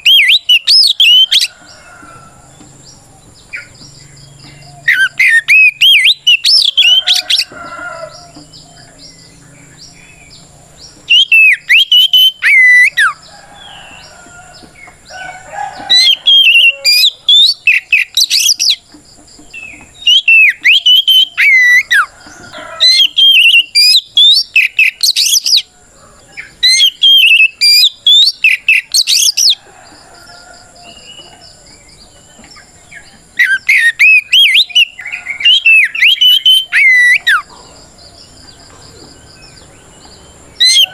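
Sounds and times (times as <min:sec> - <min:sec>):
songbird whistling song: 0:00.0 - 0:40.9.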